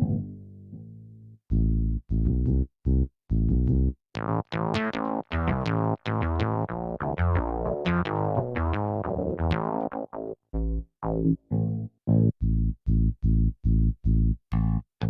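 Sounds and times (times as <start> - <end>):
plucked synth notes: 0.0 - 14.9
deep bass keyboard tone: 0.0 - 15.0.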